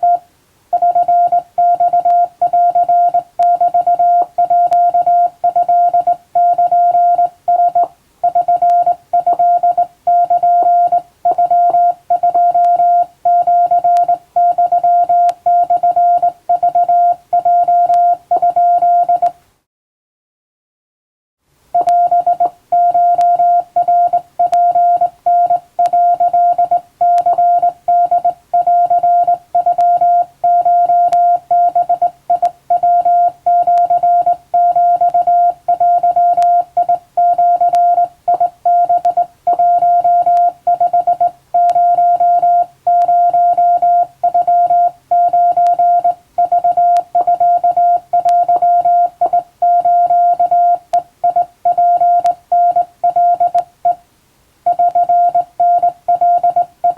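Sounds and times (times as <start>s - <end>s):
morse code beeps: 0.0s - 0.2s, 0.8s - 19.3s, 21.8s - 54.0s, 54.7s - 56.9s.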